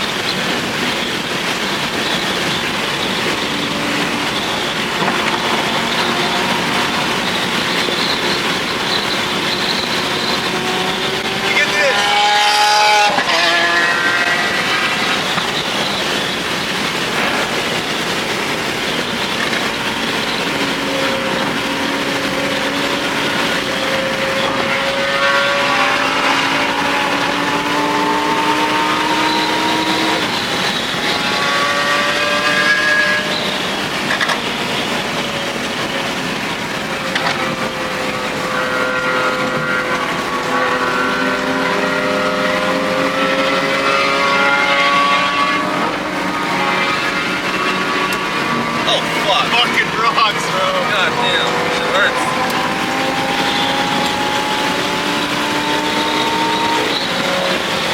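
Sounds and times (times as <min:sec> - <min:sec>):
road and wind noise: 0:00.0 - 0:57.9
sports car engine accelerating: 0:00.0 - 0:57.9.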